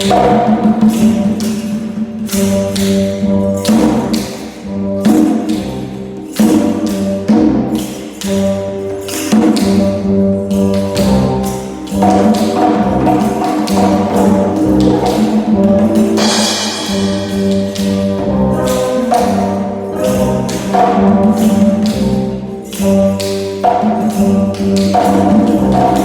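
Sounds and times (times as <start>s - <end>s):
held notes: 0.0s - 26.0s
tambourine shakes: 0.0s - 26.0s.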